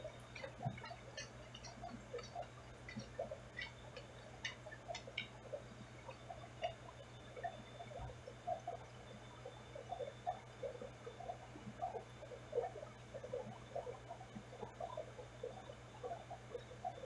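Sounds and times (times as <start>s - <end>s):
soft ticks and blips underwater: 0.0s - 17.0s
steady low hum: 0.0s - 17.0s.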